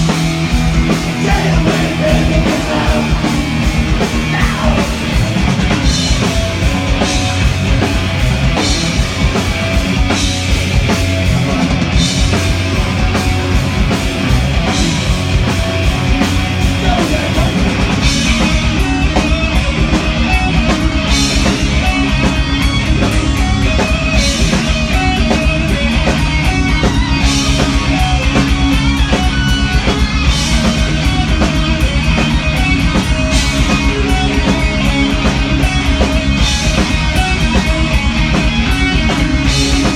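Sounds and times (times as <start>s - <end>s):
heavy rock band playing: 0.0s - 39.9s.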